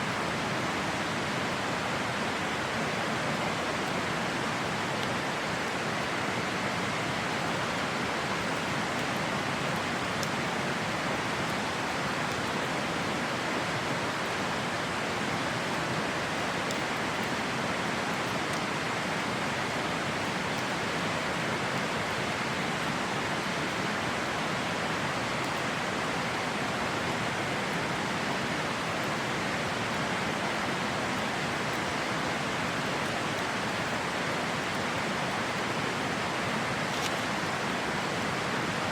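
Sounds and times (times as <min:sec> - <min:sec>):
river water rushing: 0:00.0 - 0:38.9
campfire crackling: 0:00.1 - 0:38.9.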